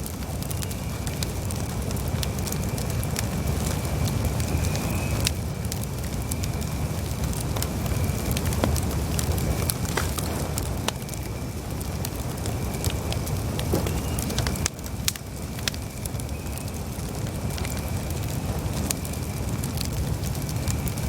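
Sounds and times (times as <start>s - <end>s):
burning wood crackling and popping: 0.0s - 21.0s
campfire flames rumbling: 0.0s - 21.0s.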